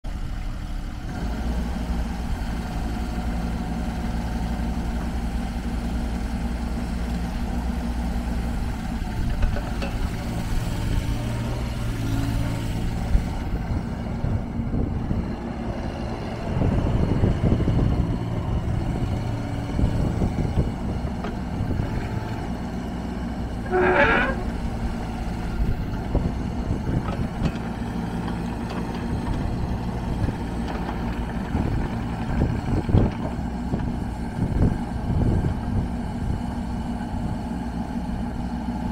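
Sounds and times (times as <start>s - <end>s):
excavator diesel engine running: 0.1s - 38.9s.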